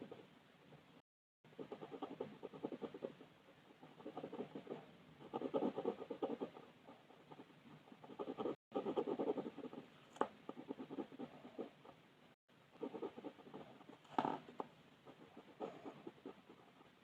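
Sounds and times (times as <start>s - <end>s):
pencil shading strokes on paper: 1.5s - 12.0s, 12.8s - 17.0s.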